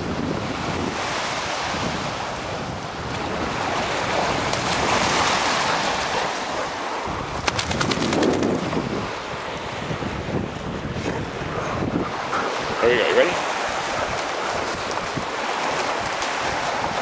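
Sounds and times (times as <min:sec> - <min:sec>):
lake waves washing in: 0:00.0 - 0:17.0
wind buffeting microphone: 0:00.0 - 0:17.0.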